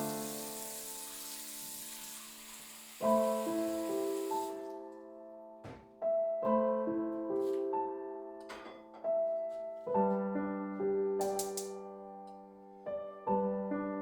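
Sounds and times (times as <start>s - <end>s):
soft slow piano chords: 0.0s - 14.0s.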